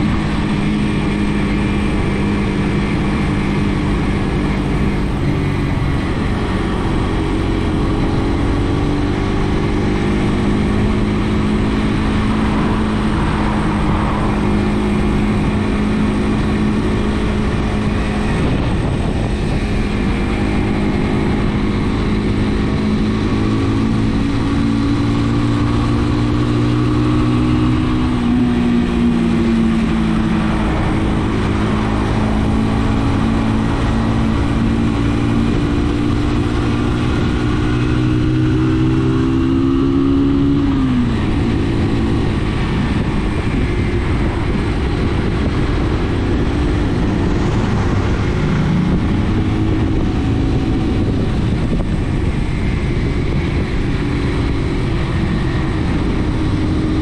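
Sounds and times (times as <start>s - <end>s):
motorcycle engine running: 0.0s - 57.0s
steady rushing noise: 0.0s - 57.0s.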